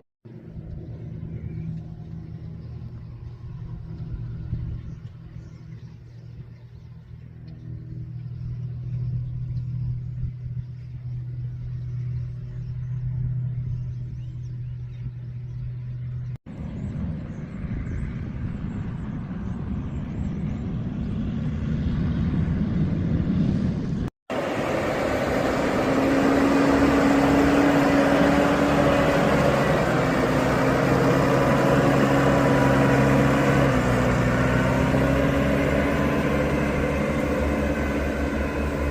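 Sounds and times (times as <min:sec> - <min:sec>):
truck engine running: 0:00.3 - 0:17.4, 0:18.4 - 0:38.9.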